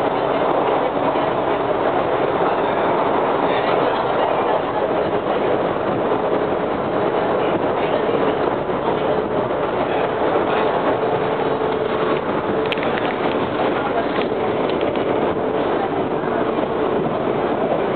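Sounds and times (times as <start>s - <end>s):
wheels rumbling on rail: 0.0s - 17.9s.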